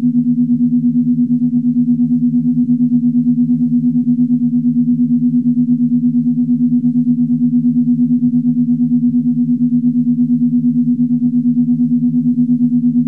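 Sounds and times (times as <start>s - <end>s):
pulsing low electronic hum: 0.0s - 13.0s.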